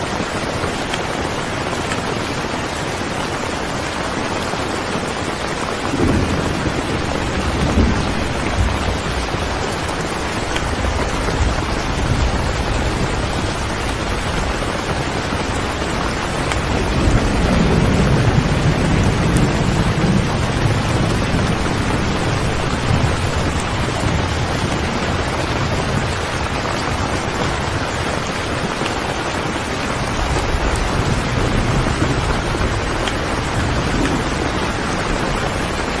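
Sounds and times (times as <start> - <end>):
steady rain: 0.0 - 36.0.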